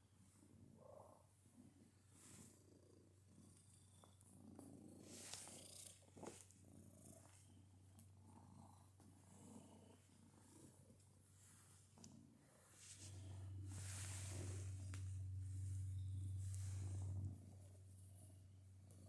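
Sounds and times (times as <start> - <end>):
cat purring: 0.1 - 19.0.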